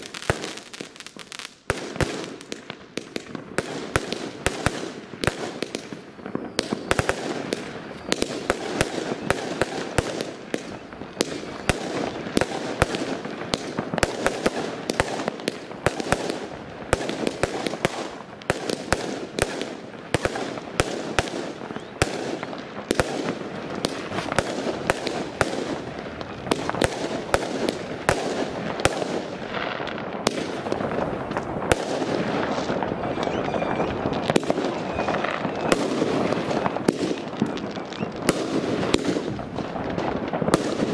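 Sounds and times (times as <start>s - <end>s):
fireworks crackling and banging: 0.0s - 40.9s.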